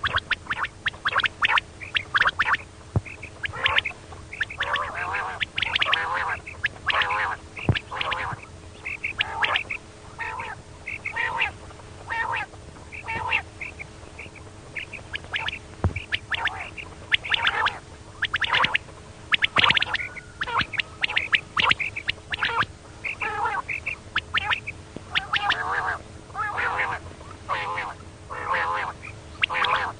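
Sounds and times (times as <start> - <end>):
faint steady hum: 0.0 - 29.9
quail calling: 0.0 - 29.9.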